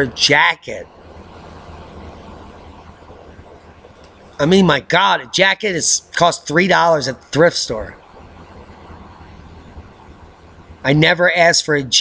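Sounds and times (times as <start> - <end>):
background hiss: 0.0 - 12.0
low hum: 0.0 - 12.0.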